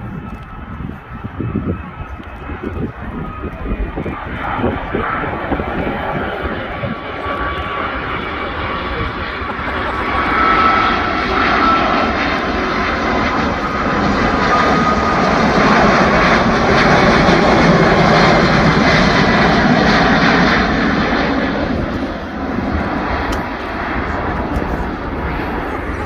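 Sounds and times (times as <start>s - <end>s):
jet aircraft roar: 0.0s - 26.0s.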